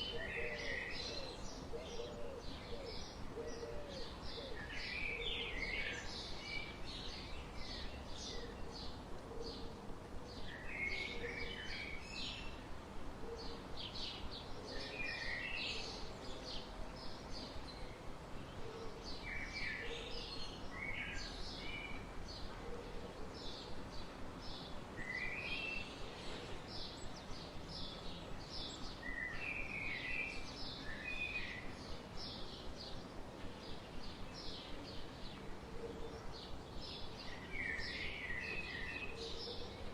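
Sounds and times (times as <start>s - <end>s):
outdoor background noise: 0.0s - 39.9s
songbirds chirping and singing: 0.0s - 39.9s.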